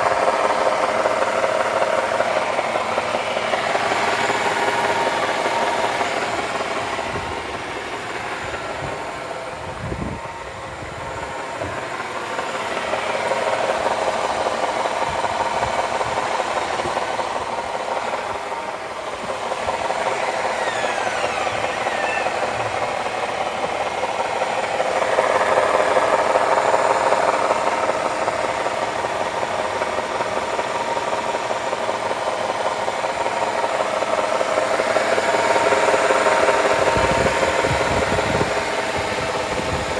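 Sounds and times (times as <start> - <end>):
transmission whining: 0.0 - 33.8
car engine idling: 0.0 - 39.9.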